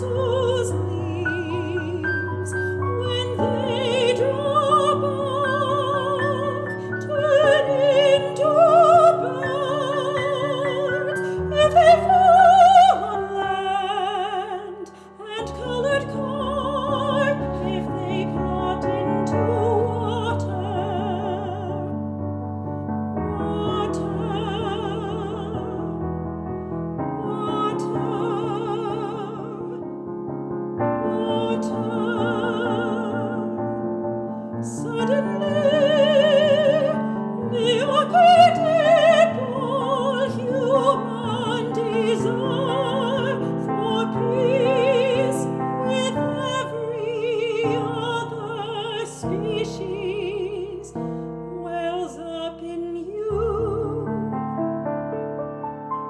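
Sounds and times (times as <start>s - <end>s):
soprano singing with vibrato: 0.0s - 22.0s, 23.2s - 26.0s, 27.1s - 29.8s, 30.9s - 33.7s, 34.6s - 54.2s
piano accompaniment: 0.0s - 56.0s.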